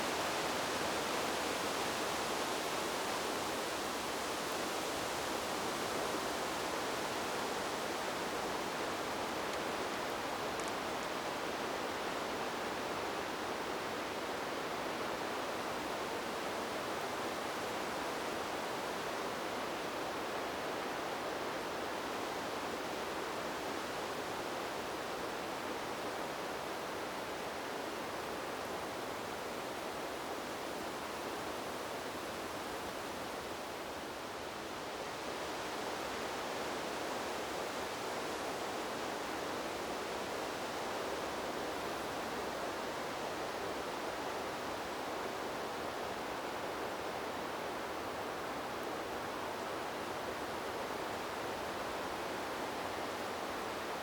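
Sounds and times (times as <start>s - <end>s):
wind blowing through trees: 0.0s - 54.0s.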